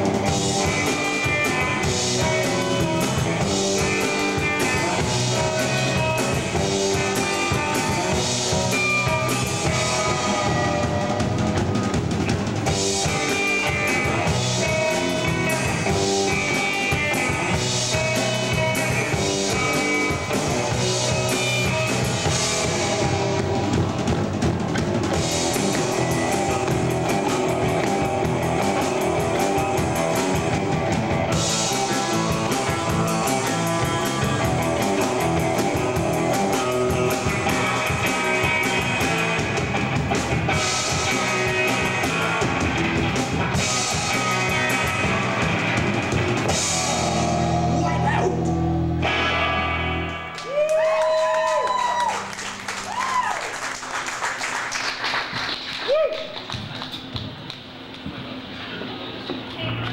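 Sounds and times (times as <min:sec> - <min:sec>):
drum-kit beat: 0:00.0 - 0:53.2
bass guitar: 0:00.0 - 0:58.5, 0:59.2 - 0:59.9
electric guitar: 0:00.0 - 0:59.9.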